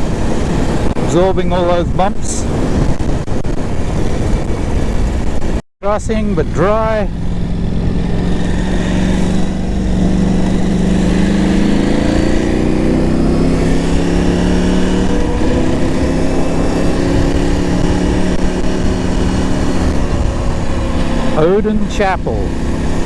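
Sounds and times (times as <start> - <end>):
motorcycle engine cruising: 0.0 - 23.0
wind rumble on microphone: 0.0 - 23.0.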